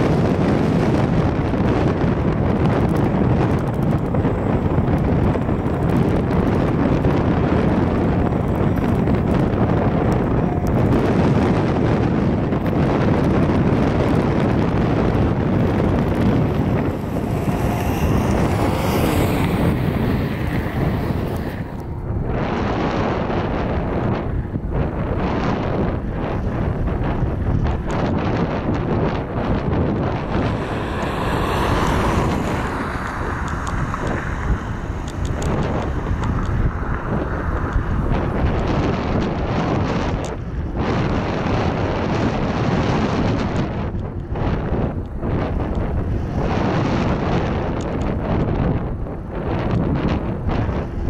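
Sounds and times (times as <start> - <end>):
jet engines taxiing: 0.0 - 25.6, 26.3 - 44.3
wind buffeting microphone: 0.0 - 51.0.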